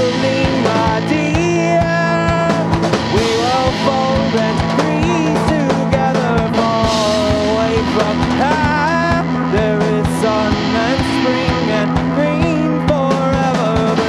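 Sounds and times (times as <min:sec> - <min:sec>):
drums hitting: 0:00.0 - 0:14.0
guitar with sliding melodic lines: 0:00.0 - 0:14.0.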